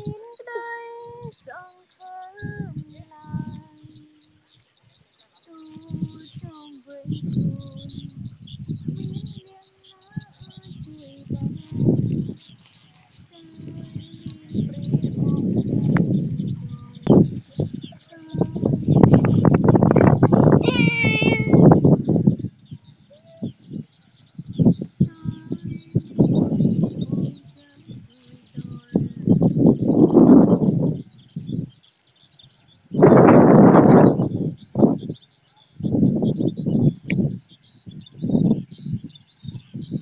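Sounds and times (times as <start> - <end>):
small birds chirping: 0.0 - 40.0
wind buffeting microphone: 0.0 - 40.0.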